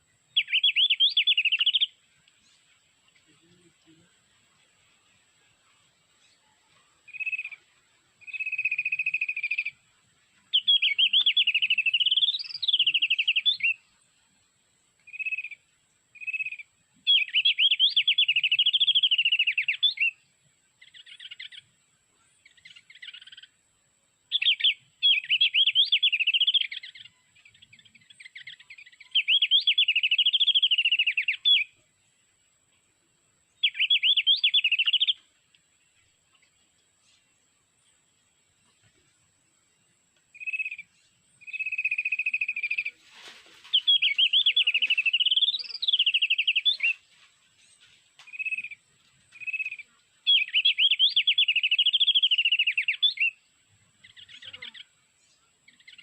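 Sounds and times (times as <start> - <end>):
bird high warbling song: 0.0 - 4.1, 6.2 - 14.0, 15.1 - 21.8, 22.4 - 23.6, 24.3 - 31.8, 33.5 - 39.1, 40.3 - 56.0.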